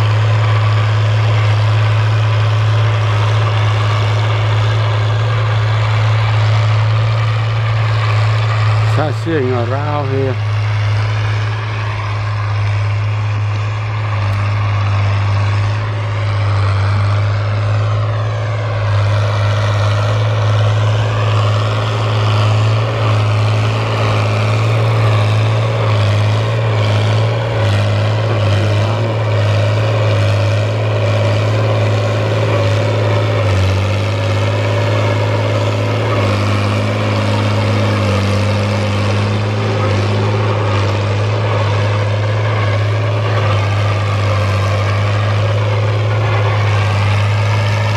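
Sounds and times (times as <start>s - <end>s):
tractor diesel engine droning: 0.0s - 47.9s.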